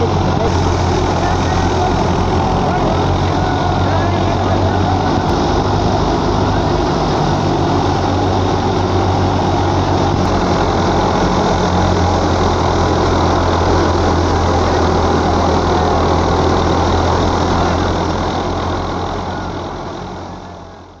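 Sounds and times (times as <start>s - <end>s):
thresher rushing noise: 0.0s - 20.8s
tractor diesel engine running: 0.0s - 21.0s.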